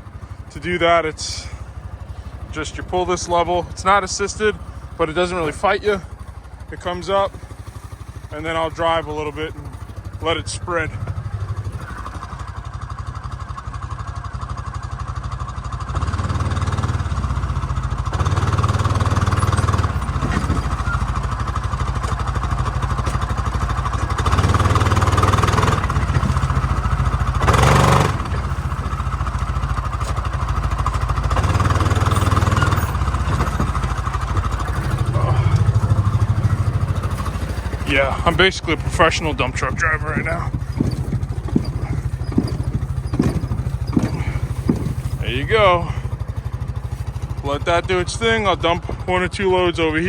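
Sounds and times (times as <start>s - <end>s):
utility vehicle engine running: 0.0s - 50.0s.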